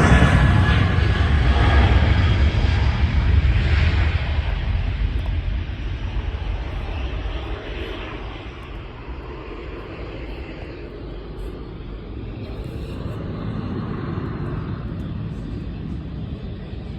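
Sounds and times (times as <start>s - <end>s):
jet engine roar: 0.0s - 16.9s.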